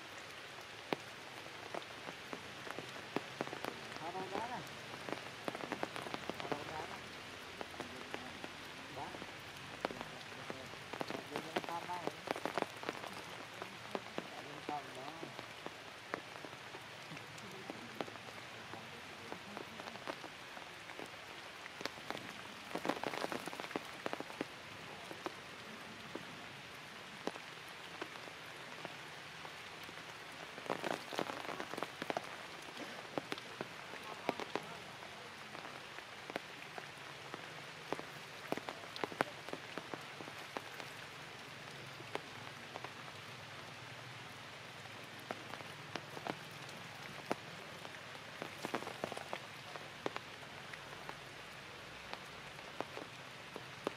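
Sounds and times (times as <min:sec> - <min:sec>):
light rain on leaves: 0:00.0 - 0:53.9.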